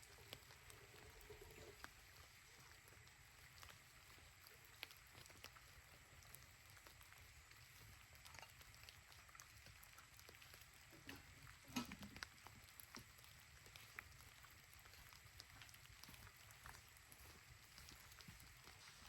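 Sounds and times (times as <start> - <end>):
raindrops dripping: 0.0 - 19.0.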